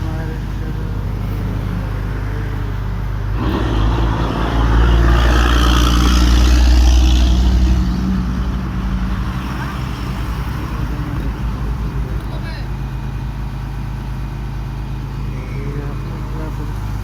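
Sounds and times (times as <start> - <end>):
drilling machine engine running: 0.0 - 17.0.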